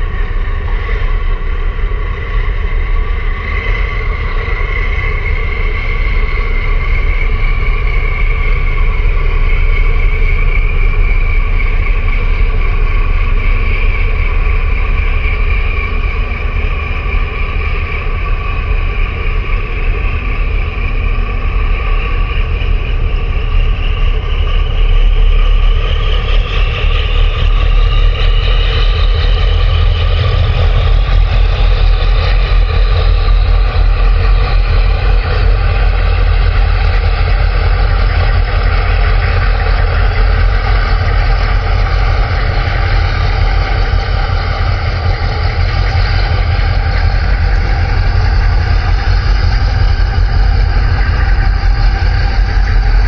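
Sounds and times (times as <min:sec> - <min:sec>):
boat engine droning: 0:00.0 - 0:53.0.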